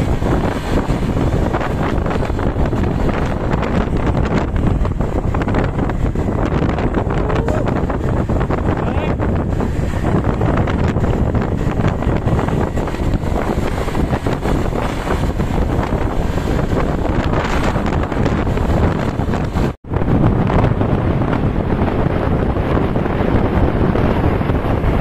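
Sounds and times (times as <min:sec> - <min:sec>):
traffic rumble: 0:00.0 - 0:25.0
wind buffeting microphone: 0:00.0 - 0:25.0.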